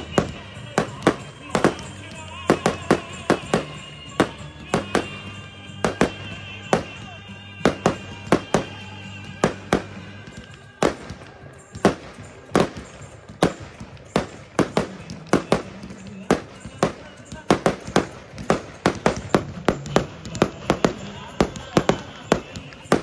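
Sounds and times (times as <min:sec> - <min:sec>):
fireworks bangs: 0:00.0 - 0:23.0
music: 0:00.0 - 0:23.0.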